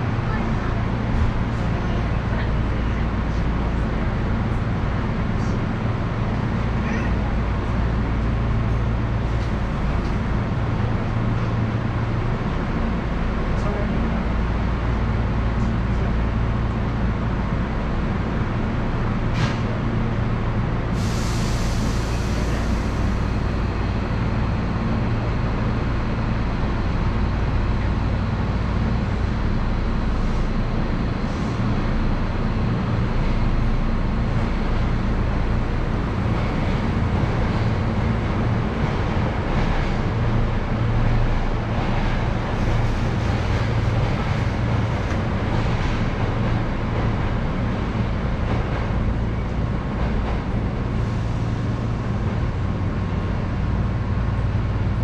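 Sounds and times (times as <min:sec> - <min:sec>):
electric train equipment hum: 0:00.0 - 0:55.0.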